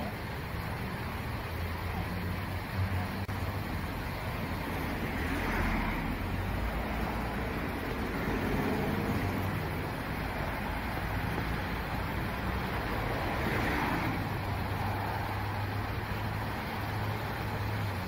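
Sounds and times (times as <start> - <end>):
low engine hum: 0.0 - 18.0
vehicle passing: 1.6 - 18.0.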